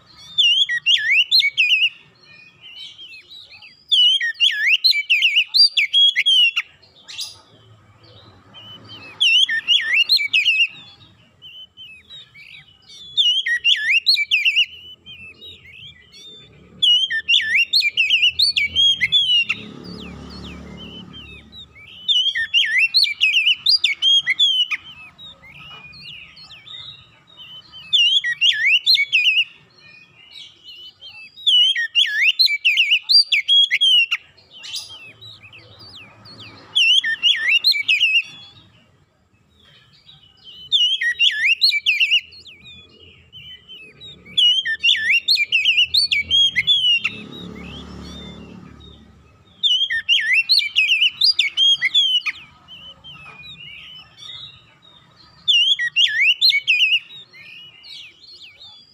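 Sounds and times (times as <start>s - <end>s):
bird singing whistled phrases: 0.0s - 58.9s.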